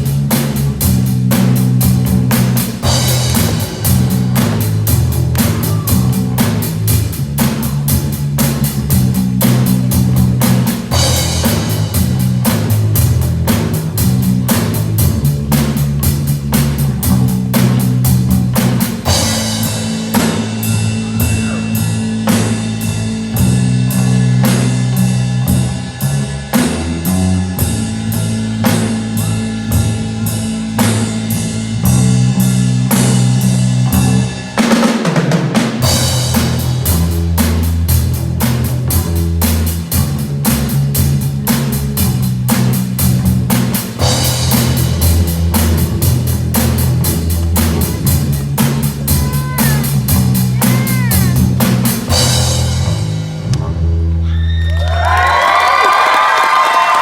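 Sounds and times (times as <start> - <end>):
drum kit beat: 0.0 - 53.8, 54.9 - 57.0
guitar: 0.0 - 55.6
bass line: 0.0 - 57.0.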